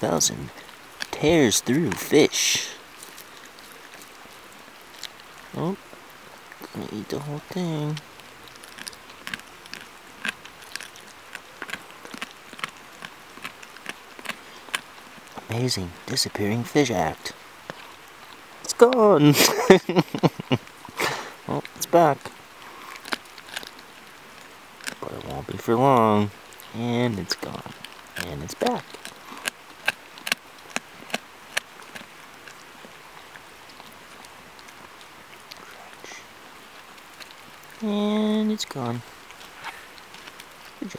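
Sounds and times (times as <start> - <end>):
dog chewing fish: 0.0 - 5.4, 6.2 - 19.2, 21.6 - 37.8, 38.8 - 40.9.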